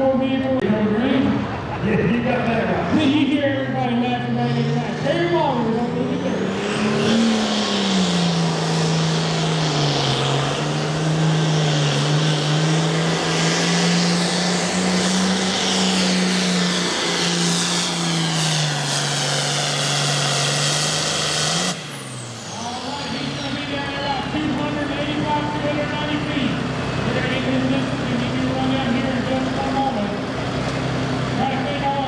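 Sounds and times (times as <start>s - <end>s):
tractor diesel engine at full throttle: 0.0s - 32.0s.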